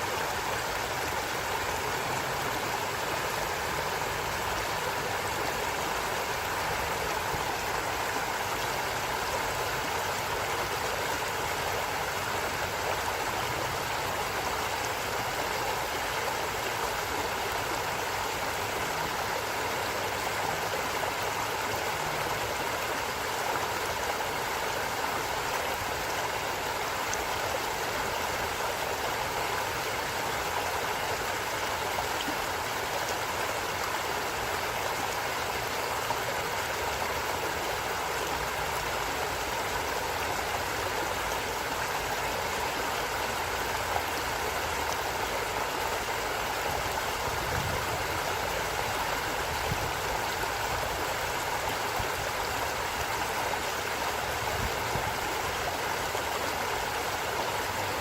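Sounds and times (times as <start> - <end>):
stream of water flowing: 0.0 - 58.0.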